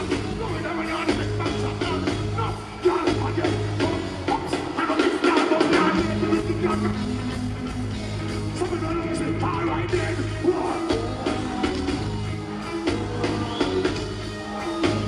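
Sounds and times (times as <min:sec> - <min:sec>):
bass line: 0:00.0 - 0:15.0
live band music: 0:00.0 - 0:15.0.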